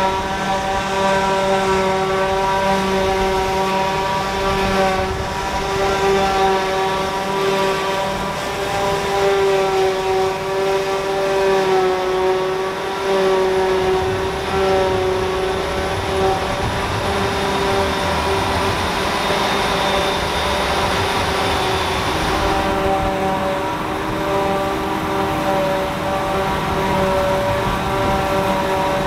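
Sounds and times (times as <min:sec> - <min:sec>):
steady whining tone: 0:00.0 - 0:29.0.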